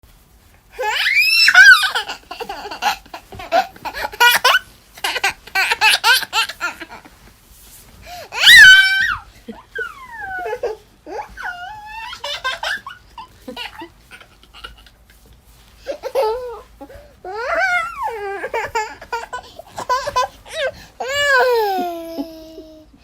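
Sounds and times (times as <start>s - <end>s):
toddler laughing: 0.8s - 7.2s, 8.4s - 15.0s, 15.8s - 23.0s.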